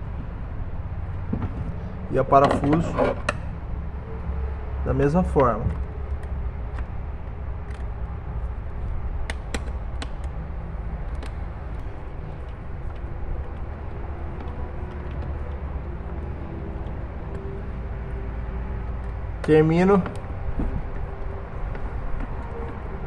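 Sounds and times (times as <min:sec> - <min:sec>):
low background rumble: 0:00.0 - 0:23.0.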